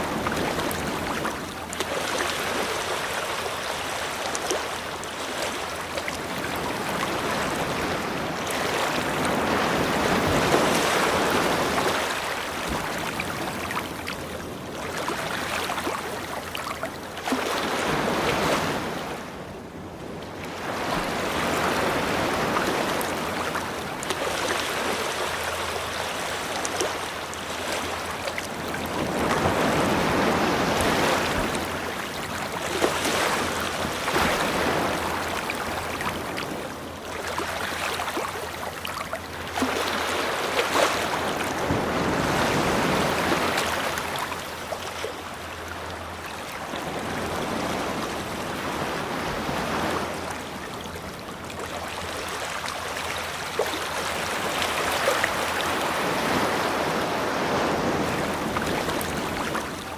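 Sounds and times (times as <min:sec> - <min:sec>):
ocean surf washing onto shore: 0:00.0 - 0:59.9.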